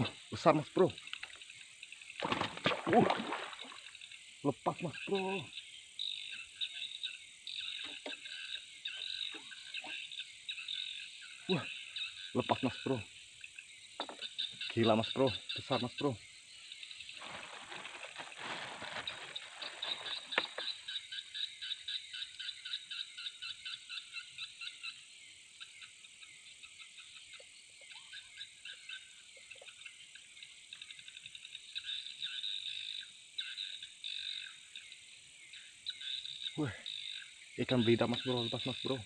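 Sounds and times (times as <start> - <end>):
crickets droning: 0.0 - 39.0
frogs calling in pulsed trains: 3.8 - 17.2, 19.0 - 39.0.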